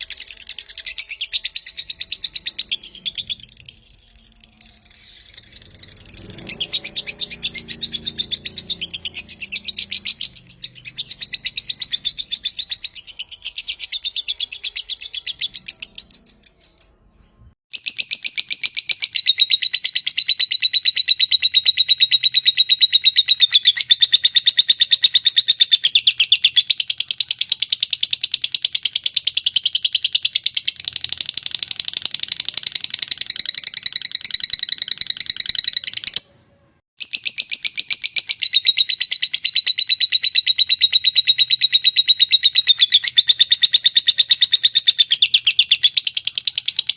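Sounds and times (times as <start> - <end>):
lovebird high chirps: 0.0 - 46.9.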